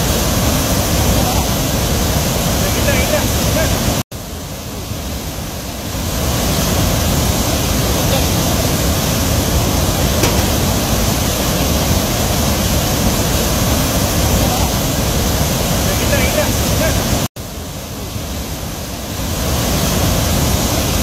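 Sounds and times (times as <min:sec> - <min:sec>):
floodwater rushing: 0:00.0 - 0:17.2.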